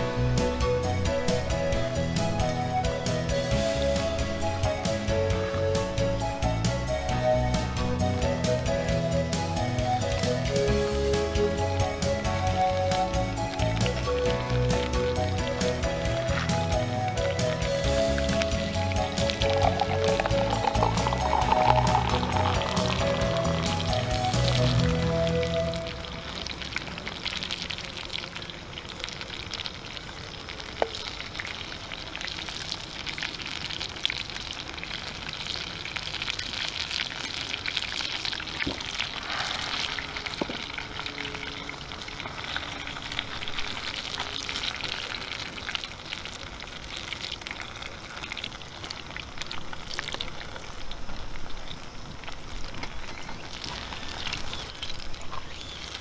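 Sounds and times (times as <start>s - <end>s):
hot oil sizzling and crackling: 0.0s - 56.0s.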